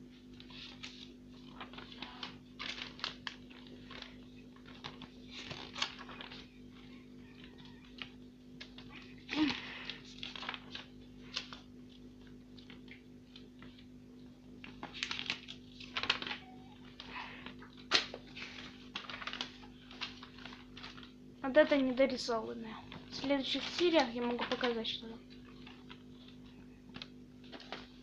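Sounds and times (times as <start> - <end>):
steady low hum: 0.0 - 28.0
paper pages rustling: 0.1 - 21.3, 22.9 - 28.0.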